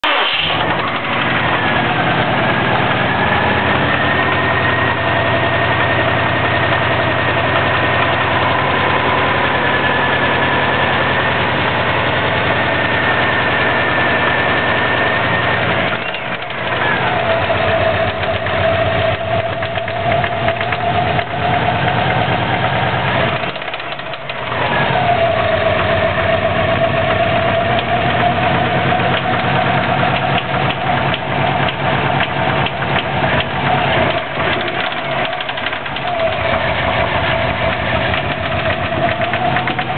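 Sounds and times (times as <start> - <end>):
car engine idling with knock: 0.0 - 39.9
steady whine: 0.1 - 39.9.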